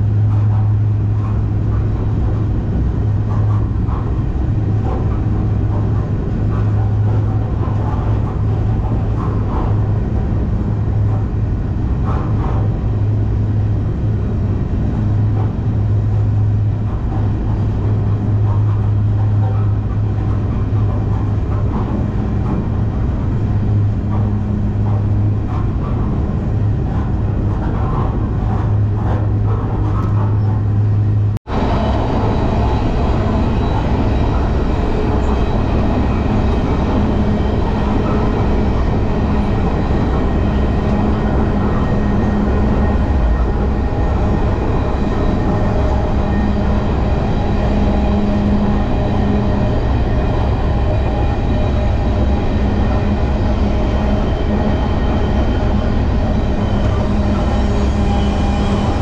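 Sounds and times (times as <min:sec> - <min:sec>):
freight train rolling: 0:00.0 - 0:59.0.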